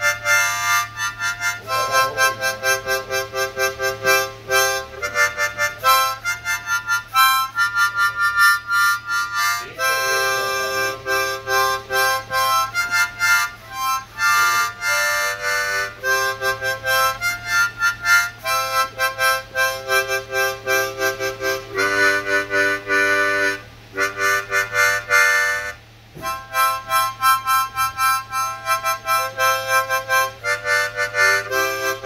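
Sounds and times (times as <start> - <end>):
harmonica chords and notes: 0.0 - 32.0.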